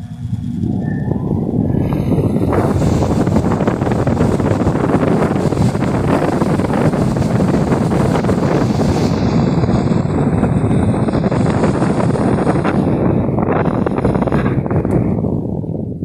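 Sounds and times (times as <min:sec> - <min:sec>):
pedestal fan buffeting microphone: 0:00.0 - 0:16.0.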